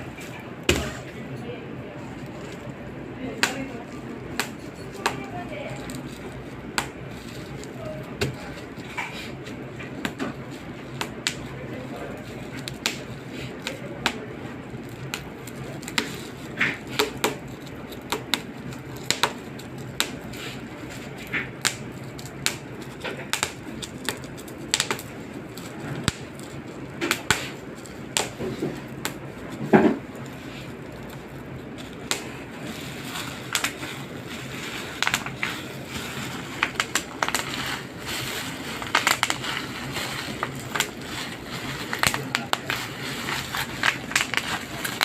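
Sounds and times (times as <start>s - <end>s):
bubble wrap popping: 0.0s - 45.0s.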